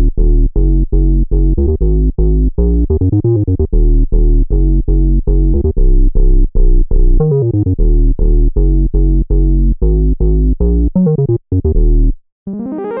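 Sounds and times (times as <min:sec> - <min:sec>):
punchy synth bass notes: 0:00.0 - 0:13.0.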